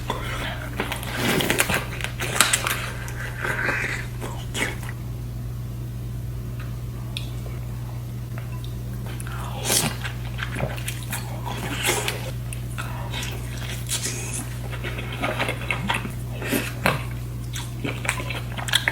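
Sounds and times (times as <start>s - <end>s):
person chewing crunchy food: 0.0s - 5.0s, 7.1s - 18.9s
steady low hum: 0.0s - 18.9s.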